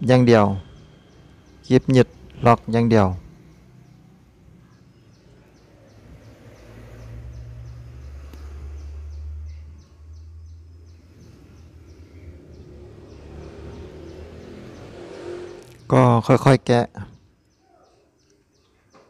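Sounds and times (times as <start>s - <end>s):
passing vehicle engine rumble: 0.0s - 17.4s.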